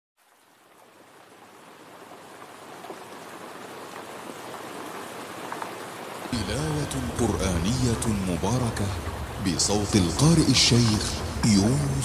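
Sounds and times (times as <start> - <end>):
steady rain falling: 0.2 - 12.0.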